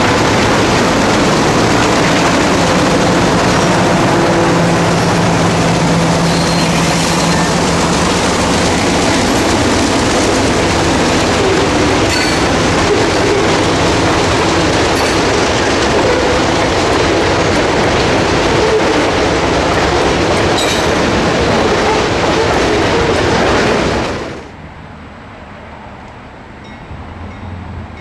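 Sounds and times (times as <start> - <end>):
rail clicks: 0.0 - 24.6
freight train wheels rumbling on rails: 0.0 - 28.0.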